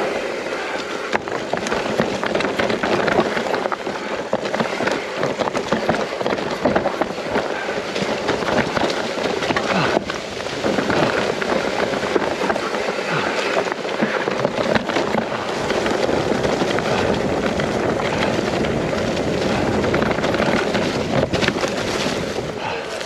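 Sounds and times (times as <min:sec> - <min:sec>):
bike rattling: 0:00.0 - 0:23.0
bike tyres rolling over stones: 0:00.0 - 0:23.0.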